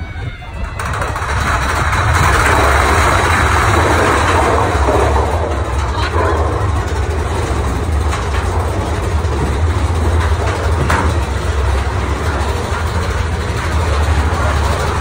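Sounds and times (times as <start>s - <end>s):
roller coaster rumbling on track: 0.0s - 15.0s
sharp track clacks: 0.5s - 15.0s.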